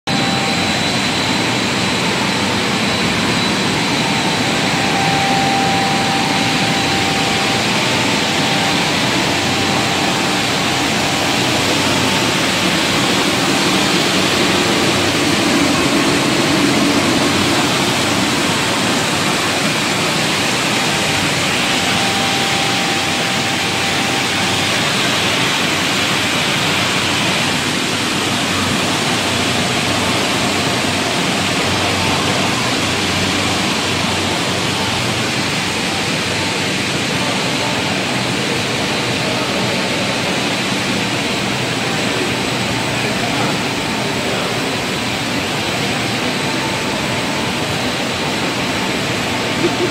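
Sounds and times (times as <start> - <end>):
faint machine whine: 0.0 - 49.9
machinery rushing noise: 0.0 - 49.9.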